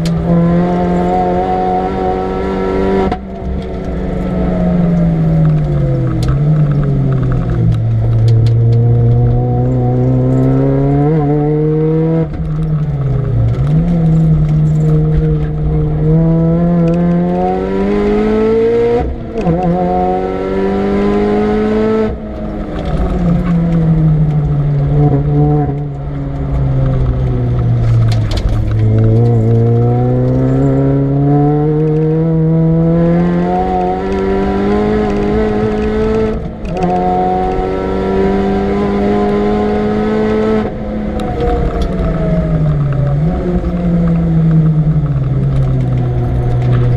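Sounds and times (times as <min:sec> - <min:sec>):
car engine revving through gears: 0:00.0 - 0:46.9.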